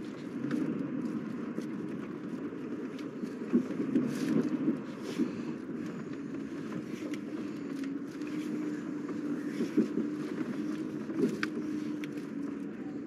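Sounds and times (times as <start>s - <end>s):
car engine and road hum: 0.0s - 13.0s.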